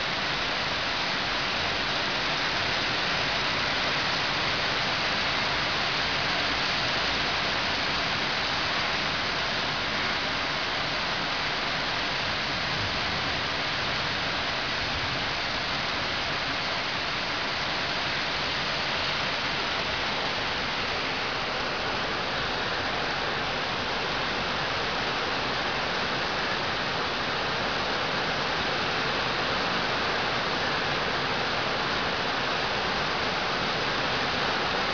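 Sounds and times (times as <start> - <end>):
heavy rain on foliage: 0.0 - 34.9.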